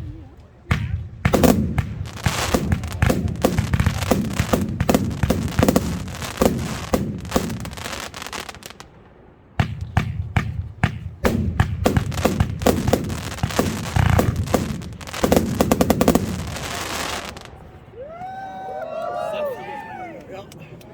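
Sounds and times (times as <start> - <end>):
fireworks bangs in quick succession: 0.7 - 17.6.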